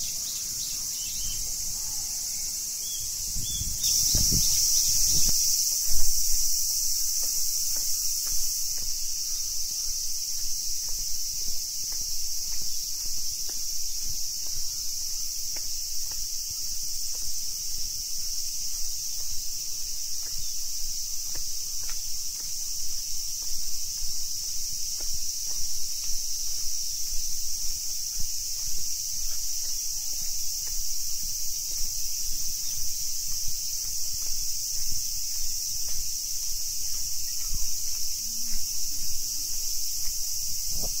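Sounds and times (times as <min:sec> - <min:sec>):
footsteps on stone path: 0:00.0 - 0:41.0
insect chorus drone: 0:00.0 - 0:41.0.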